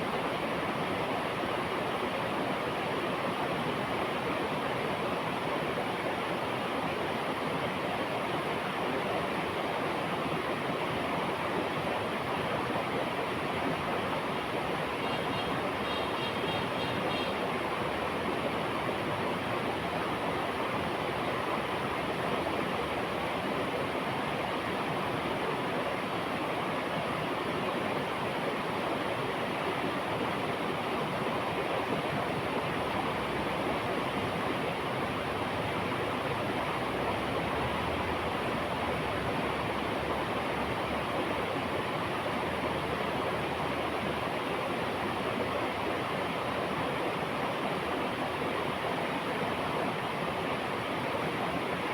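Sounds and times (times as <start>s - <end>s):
river water rushing: 0.1s - 51.9s.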